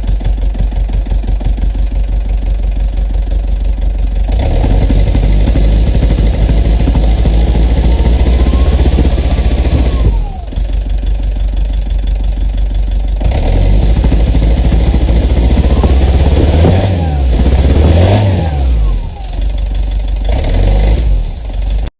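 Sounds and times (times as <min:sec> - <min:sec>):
diesel engine revving: 0:00.0 - 0:21.9.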